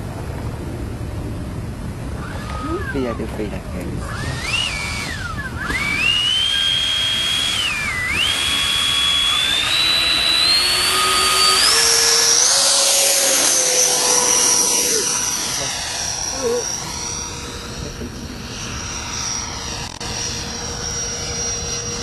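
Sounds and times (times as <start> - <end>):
high ducted fan whine: 0.0 - 22.0.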